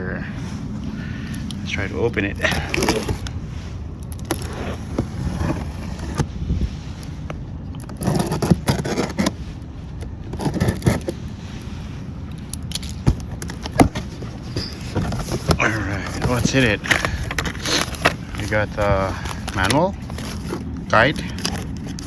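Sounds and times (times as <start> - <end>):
cardboard box being opened: 2.4 - 6.4, 7.1 - 22.0.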